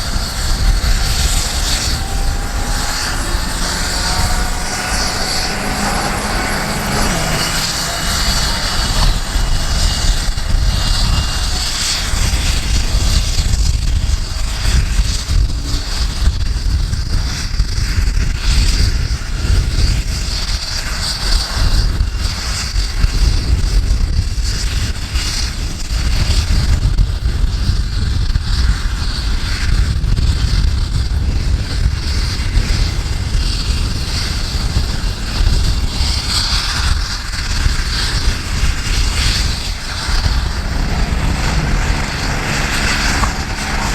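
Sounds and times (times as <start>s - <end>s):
helicopter turbine and rotor: 0.0s - 43.9s
wind buffeting microphone: 0.0s - 43.9s.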